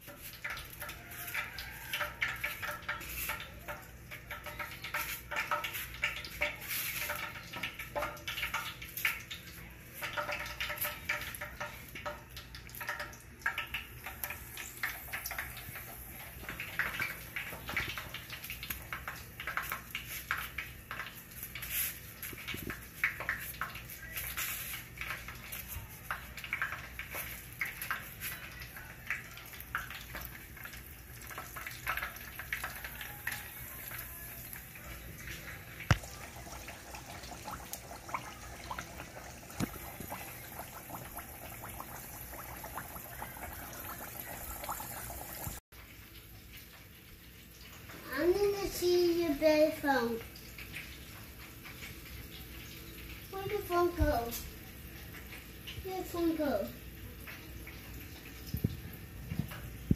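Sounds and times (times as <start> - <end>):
water running: 0.0 - 59.9.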